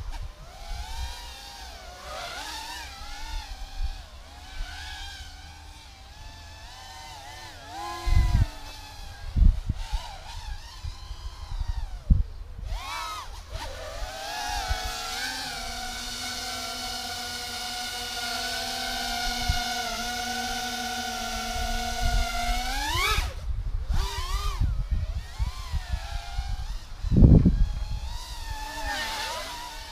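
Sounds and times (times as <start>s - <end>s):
drone motors whining: 0.0s - 29.9s.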